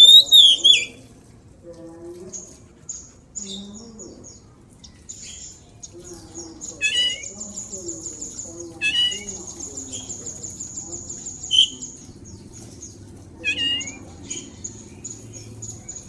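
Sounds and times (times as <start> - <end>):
bird singing chirps and trills: 0.0 - 1.0, 2.3 - 16.0.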